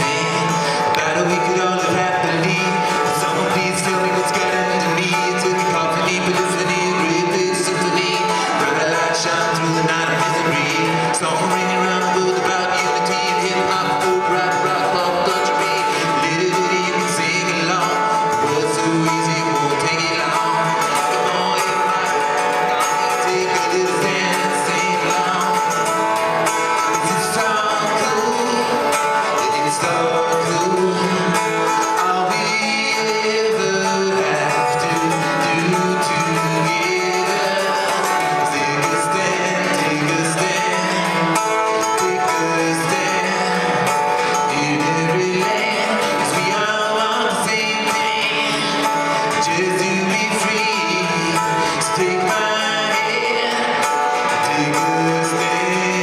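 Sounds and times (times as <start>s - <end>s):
man singing: 0.0s - 56.0s
strummed guitar: 0.0s - 56.0s.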